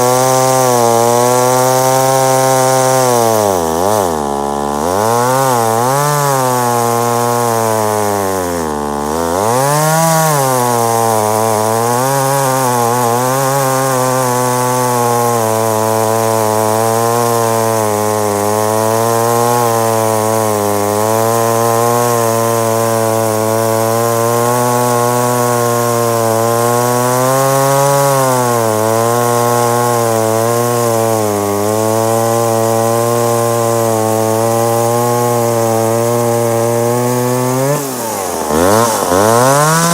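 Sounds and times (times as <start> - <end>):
chainsaw engine at high revs: 0.0 - 39.9.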